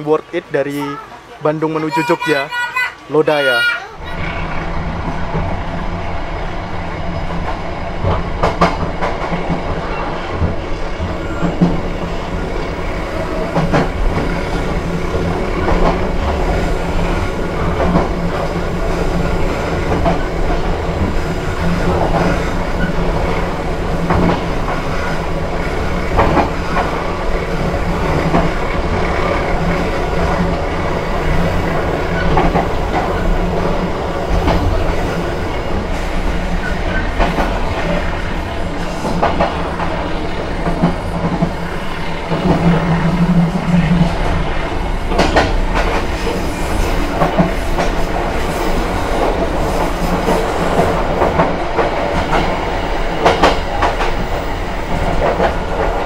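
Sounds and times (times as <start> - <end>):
train low drone: 4.0 - 56.0
train wheels clacking on rail joints: 7.2 - 56.0.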